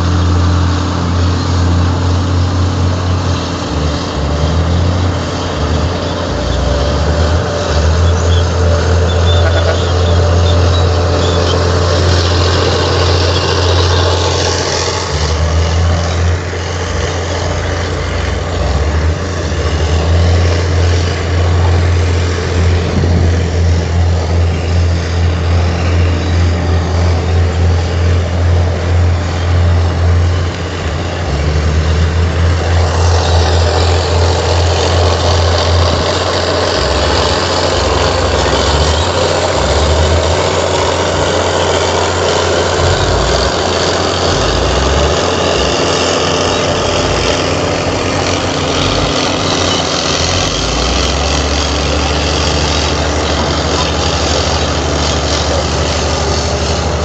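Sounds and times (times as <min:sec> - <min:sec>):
heavy diesel engine running: 0:00.0 - 0:57.0
noisy clatter: 0:00.0 - 0:57.0.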